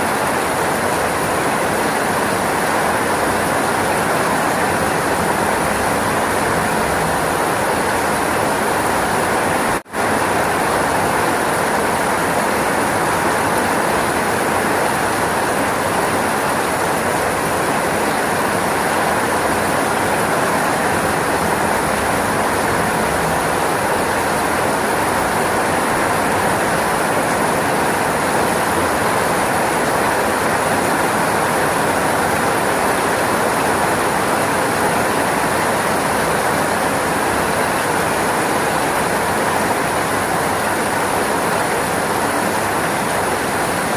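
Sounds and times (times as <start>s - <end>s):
heavy rainfall: 0.0s - 43.9s.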